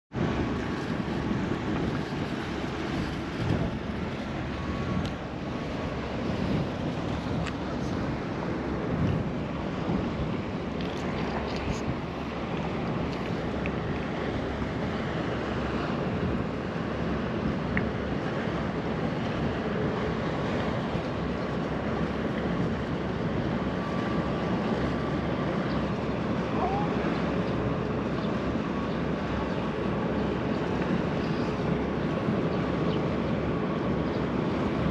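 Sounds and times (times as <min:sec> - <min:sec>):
sea waves washing: 0:00.1 - 0:34.9
wind buffeting microphone: 0:00.1 - 0:34.9.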